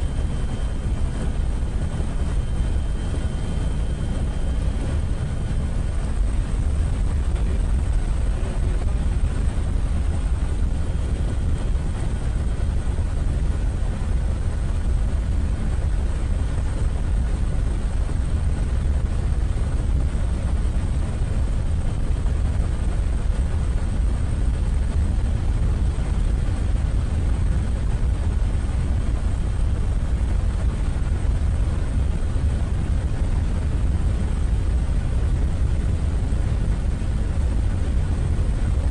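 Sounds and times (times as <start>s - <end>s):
faint steady whines: 0.0s - 38.9s
helicopter engine and rotor rumble: 0.0s - 38.9s.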